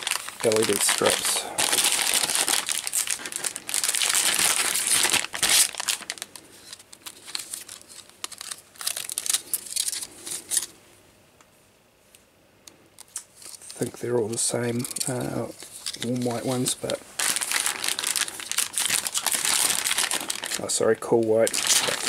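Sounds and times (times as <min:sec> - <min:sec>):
plastic bag crinkling: 0:00.0 - 0:10.7, 0:13.0 - 0:22.0.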